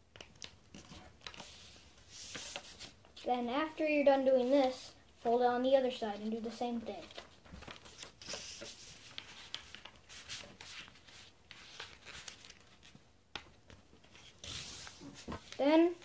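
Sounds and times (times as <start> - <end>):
paper rustling and folding: 0.1 - 3.3, 5.9 - 16.0.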